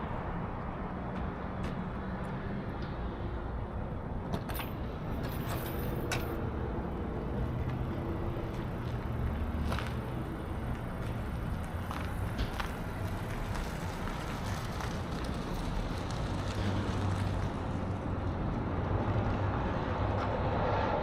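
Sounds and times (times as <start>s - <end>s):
truck engine and road noise: 0.0s - 21.0s.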